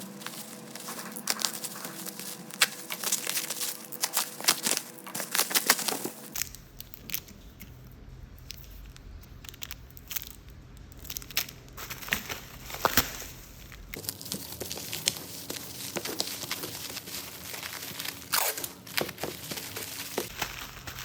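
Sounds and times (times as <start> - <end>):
low hum: 0.0 - 19.0
plastic packaging crinkling: 0.0 - 21.0.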